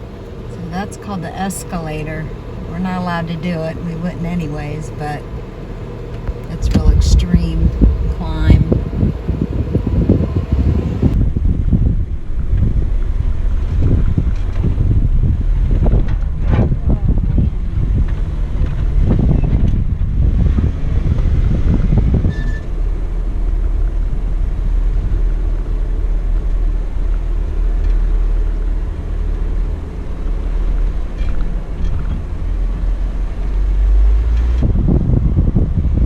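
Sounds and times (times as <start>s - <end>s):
car engine rumbling: 0.0s - 36.0s.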